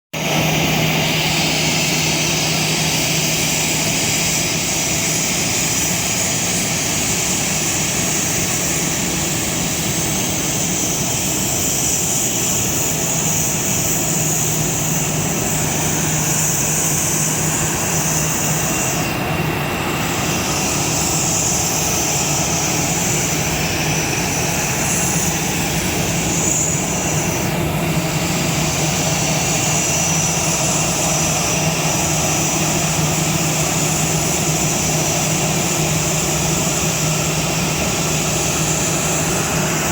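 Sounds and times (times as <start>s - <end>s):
jet engines whining at low power: 0.1s - 39.9s.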